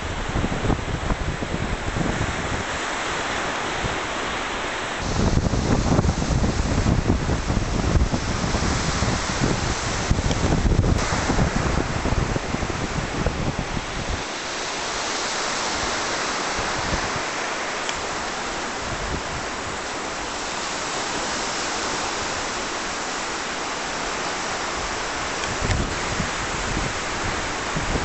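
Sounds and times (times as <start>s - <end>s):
wind buffeting microphone: 0.0s - 23.0s, 24.0s - 28.0s
wind rushing hiss: 0.0s - 28.0s.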